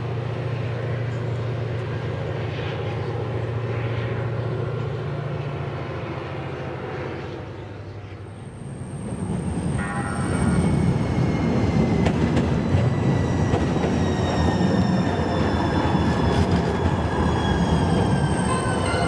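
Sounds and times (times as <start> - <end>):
large engine droning: 0.0 - 19.0.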